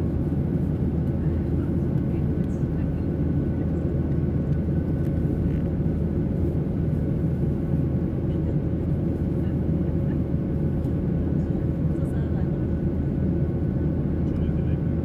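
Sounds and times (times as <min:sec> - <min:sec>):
jet engines and airflow rumble: 0:00.0 - 0:15.0.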